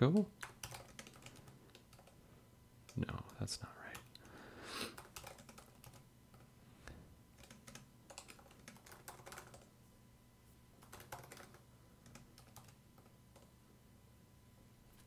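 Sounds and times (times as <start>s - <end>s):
faint typing on a keyboard: 0.2s - 9.8s, 10.7s - 13.6s.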